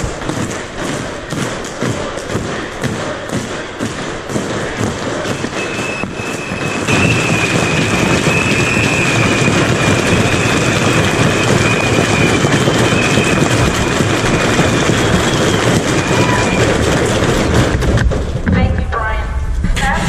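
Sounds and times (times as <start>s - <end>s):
crowd din: 0.0s - 18.6s.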